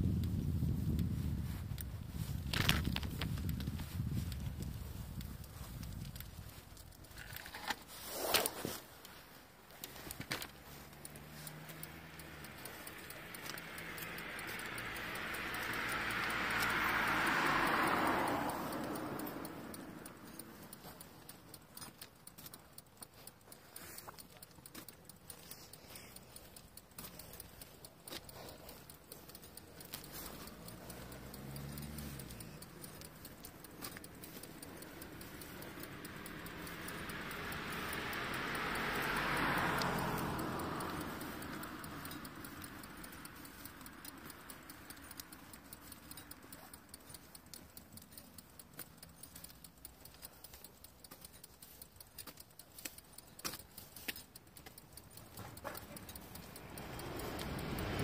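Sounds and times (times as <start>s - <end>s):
vehicle passing: 0.0s - 51.0s, 54.8s - 58.0s
bicycle rattling and clicking: 0.0s - 58.0s.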